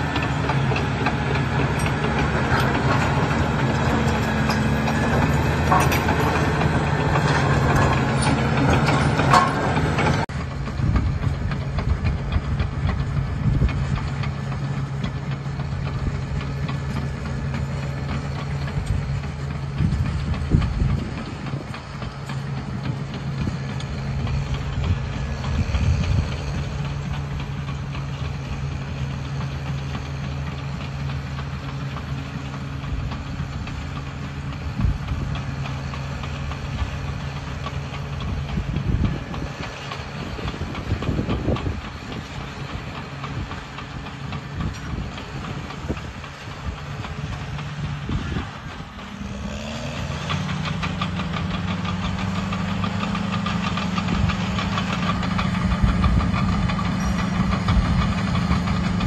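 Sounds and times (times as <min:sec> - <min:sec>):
dozer diesel engine: 0:00.0 - 0:59.0
steel tracks clanking: 0:00.0 - 0:59.0.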